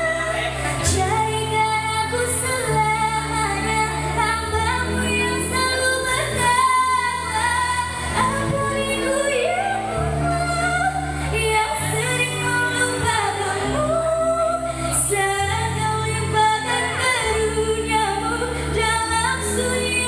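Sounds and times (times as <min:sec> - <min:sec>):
girl singing into microphone: 0:00.0 - 0:20.0
instrumental backing chords: 0:00.0 - 0:20.0.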